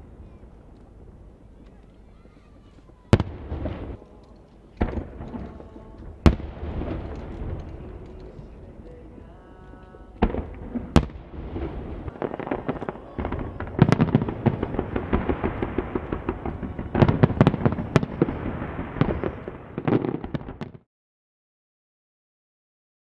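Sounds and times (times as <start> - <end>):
firework booms and crackles: 0.0 - 4.0, 4.8 - 20.9.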